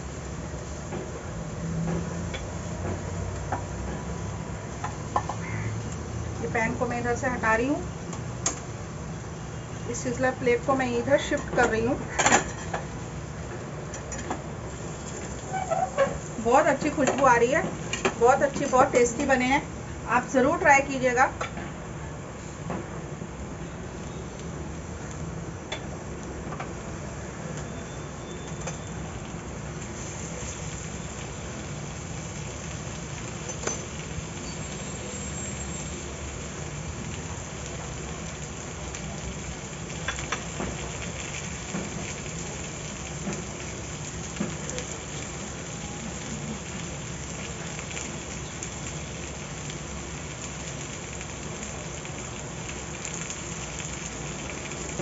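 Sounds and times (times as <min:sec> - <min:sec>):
gas burner hissing: 0:00.0 - 0:55.0.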